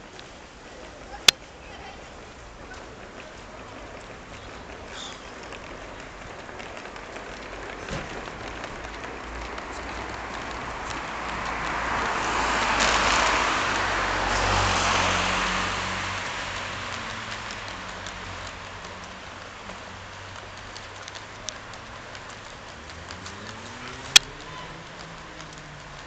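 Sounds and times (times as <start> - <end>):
road vehicle passing by: 0.1 - 26.0.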